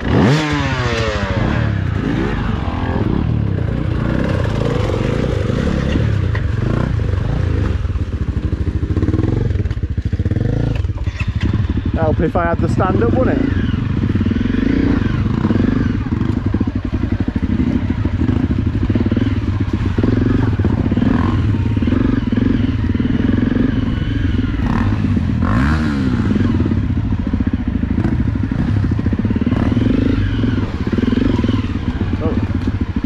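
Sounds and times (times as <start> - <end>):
motorcycle engine at low revs: 0.0 - 33.0.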